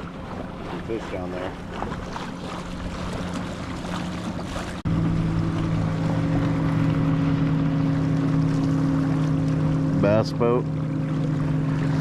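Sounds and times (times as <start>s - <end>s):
boat motor running: 0.0s - 12.0s
faint wind: 0.0s - 12.0s
water noise: 0.0s - 12.0s.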